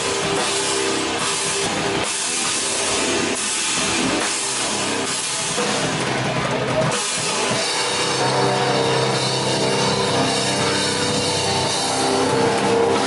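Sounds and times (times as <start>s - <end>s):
metal band playing: 0.0s - 13.0s.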